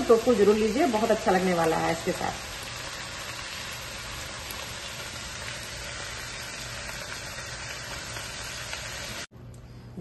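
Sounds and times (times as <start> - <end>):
vegetables sizzling in oil: 0.0 - 9.3.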